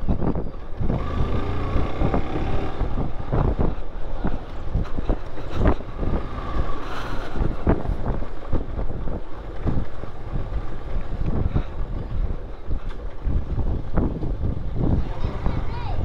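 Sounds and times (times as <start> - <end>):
motorcycle engine rumble: 0.0 - 16.0
tyres on road: 0.0 - 16.0
wind buffeting microphone: 0.0 - 16.0.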